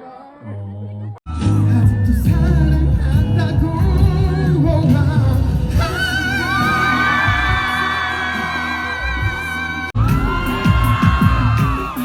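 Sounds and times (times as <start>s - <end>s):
pop song with singing: 0.0s - 12.0s
heavy bass line: 1.3s - 12.0s.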